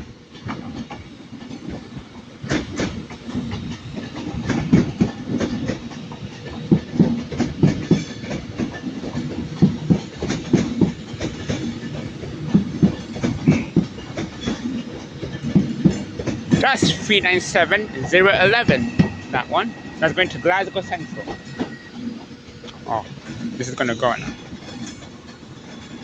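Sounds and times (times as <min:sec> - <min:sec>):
train wheels clacking over joints: 0:00.2 - 0:26.0.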